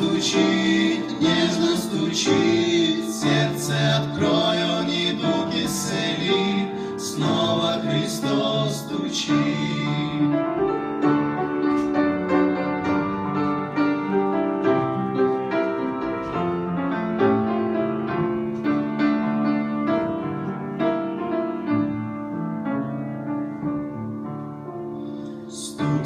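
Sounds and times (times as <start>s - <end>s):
gospel hymn on keyboard: 0.0s - 26.0s.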